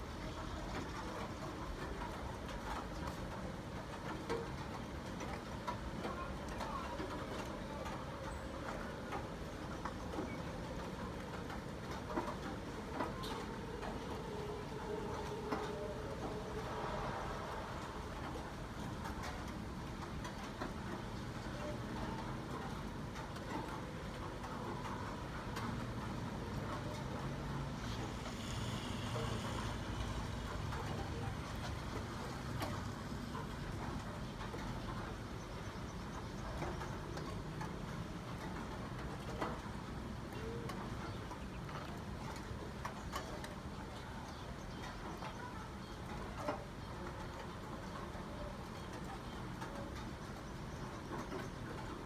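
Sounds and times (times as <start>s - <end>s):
light ticks and drips: 0.0s - 52.0s
rain low rumble: 0.0s - 52.0s.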